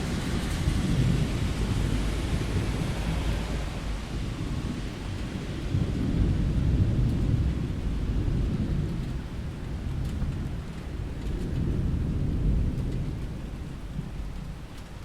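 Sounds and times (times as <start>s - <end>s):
rain on a window: 0.0s - 15.0s
rolling thunder: 0.0s - 15.0s.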